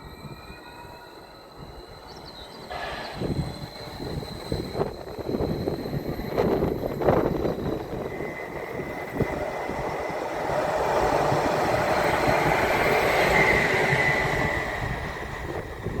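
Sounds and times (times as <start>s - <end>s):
high whine: 0.0s - 16.0s
passenger train on rails: 0.0s - 16.0s.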